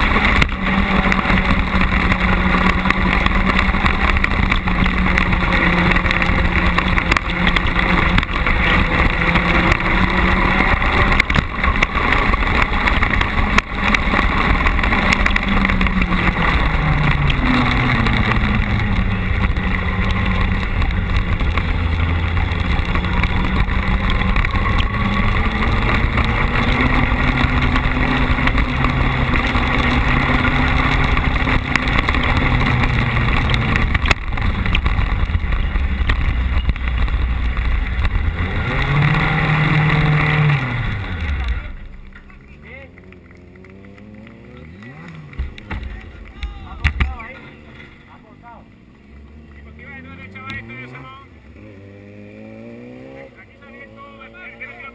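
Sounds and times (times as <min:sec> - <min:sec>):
racing buggy engine: 0:00.0 - 0:54.9
tyres on gravel: 0:00.0 - 0:54.9.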